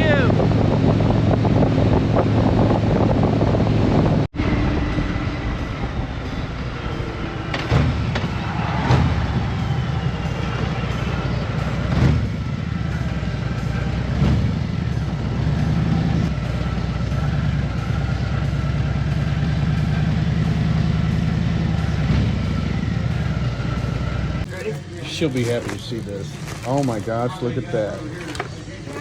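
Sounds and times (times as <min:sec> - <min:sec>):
motorcycle engine rumbling: 0:00.0 - 0:29.0
wind and road noise: 0:00.0 - 0:29.0.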